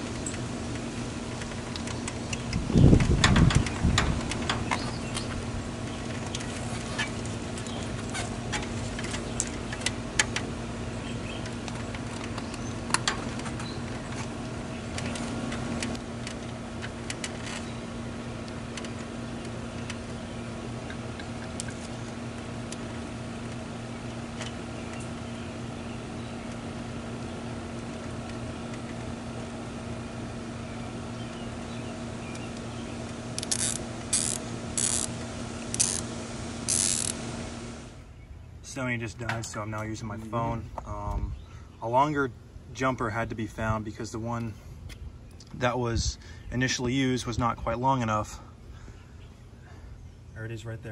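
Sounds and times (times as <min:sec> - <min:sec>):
steady machine hum: 0:00.0 - 0:50.9.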